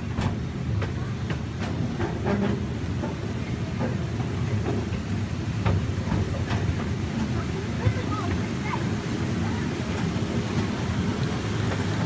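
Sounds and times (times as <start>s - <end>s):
clacks and knocks of train cars: 0.0s - 12.0s
train rumbling on track: 0.0s - 12.0s.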